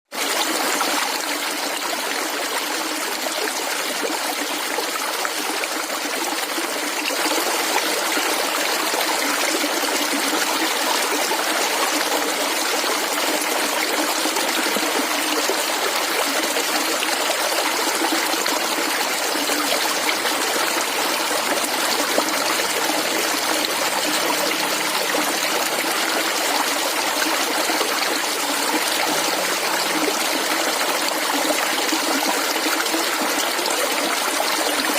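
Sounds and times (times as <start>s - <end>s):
water gurgling over stones: 0.2s - 34.9s.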